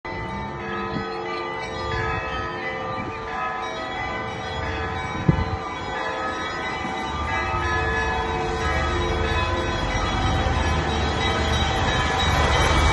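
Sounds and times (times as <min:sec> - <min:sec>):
church bells pealing: 0:00.1 - 0:12.9.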